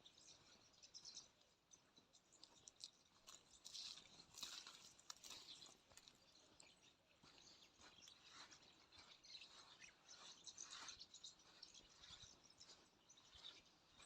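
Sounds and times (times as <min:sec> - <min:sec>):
faint rustling and scraping: 0:02.4 - 0:14.0.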